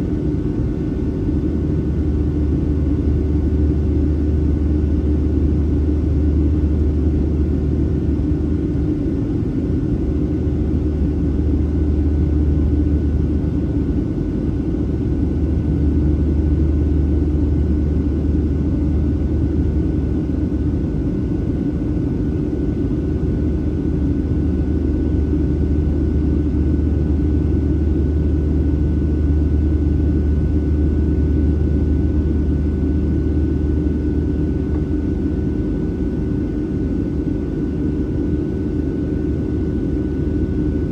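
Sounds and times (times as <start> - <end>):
faint steady whine: 0.0 - 40.9
jet engines and airflow drone: 0.0 - 40.9.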